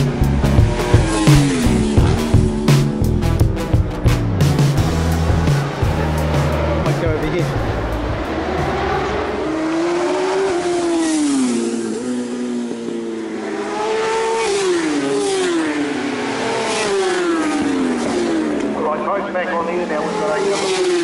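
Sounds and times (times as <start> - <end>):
motorcycle engine shifting gears: 0.0 - 21.0.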